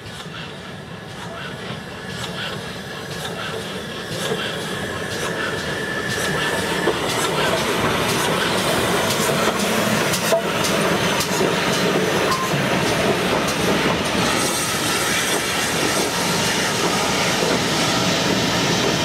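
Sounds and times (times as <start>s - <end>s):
steam locomotive passing: 0.0s - 19.0s.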